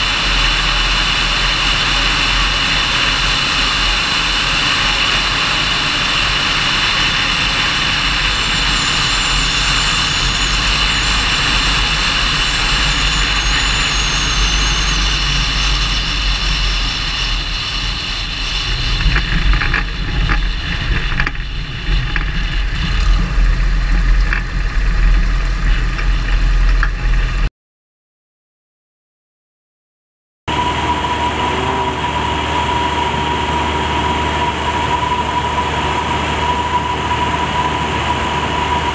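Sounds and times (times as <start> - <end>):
aircraft engine running: 0.0 - 27.5, 30.5 - 38.9.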